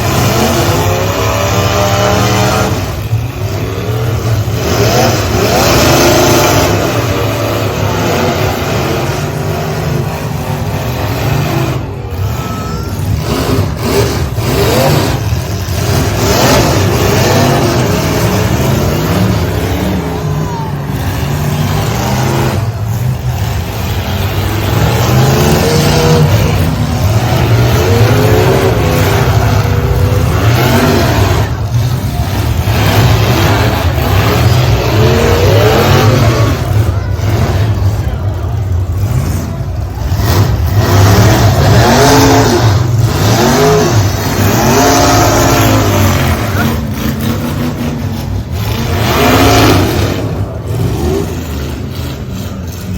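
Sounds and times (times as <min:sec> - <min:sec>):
truck engines revving: 0:00.0 - 0:52.9.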